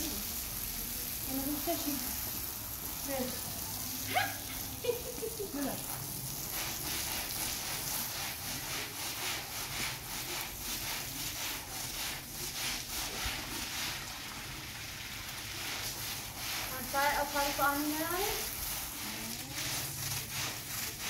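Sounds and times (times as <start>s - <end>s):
brush scrubbing a wet rug: 0.0s - 21.0s.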